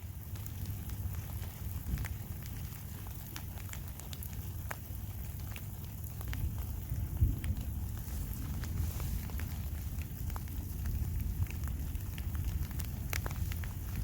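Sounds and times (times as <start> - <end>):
raindrops ticking on a surface: 0.0 - 14.0
steady low rumble: 0.0 - 14.0.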